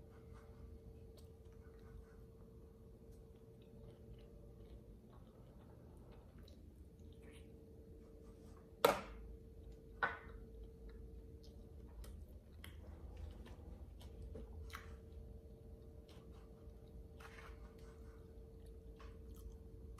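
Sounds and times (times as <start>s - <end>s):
chewing food: 0.0s - 19.9s
faint steady hum: 0.0s - 19.9s.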